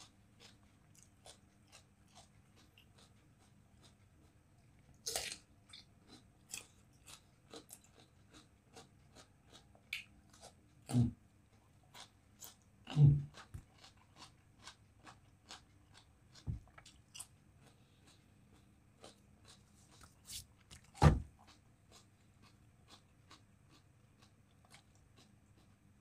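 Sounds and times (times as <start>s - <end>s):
person chewing and swallowing: 0.4s - 11.2s, 11.9s - 26.0s.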